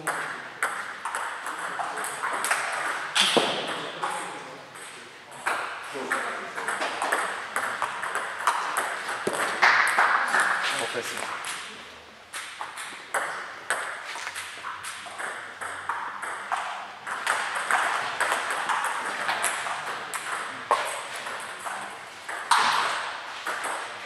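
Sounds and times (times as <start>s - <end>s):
table tennis balls tapping: 0.0s - 11.7s, 12.3s - 24.0s.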